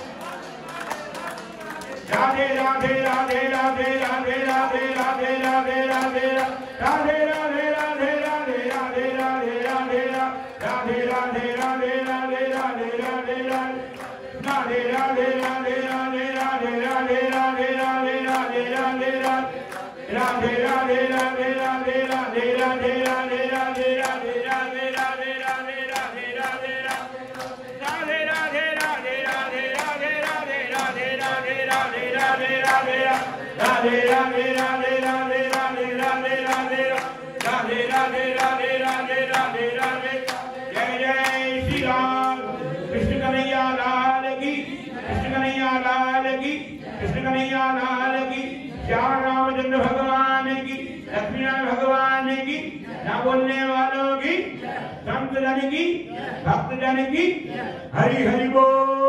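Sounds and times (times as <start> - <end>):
voices chanting: 0.0 - 49.4.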